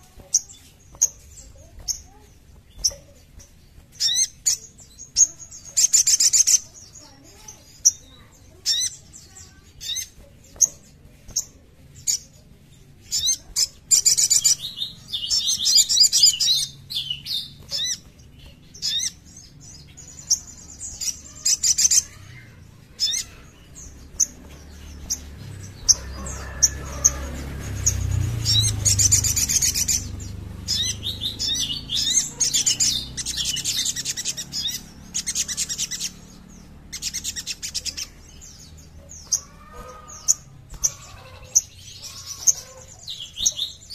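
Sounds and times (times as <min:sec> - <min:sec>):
bird chirping and twittering: 0:00.0 - 0:43.9.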